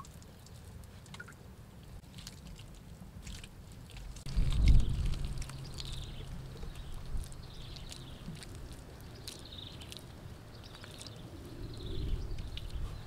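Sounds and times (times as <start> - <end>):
small wet clicks: 0.0 - 13.0
wet mud squelching: 2.0 - 13.0.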